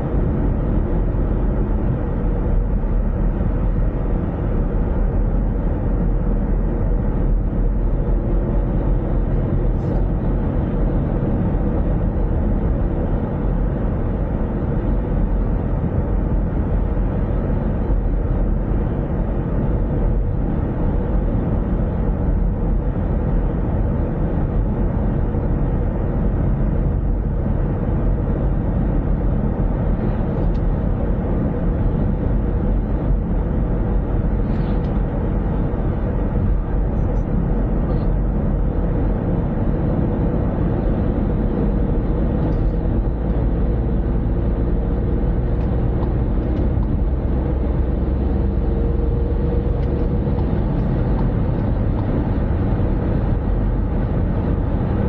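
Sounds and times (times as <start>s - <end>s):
car driving road noise: 0.0s - 55.0s.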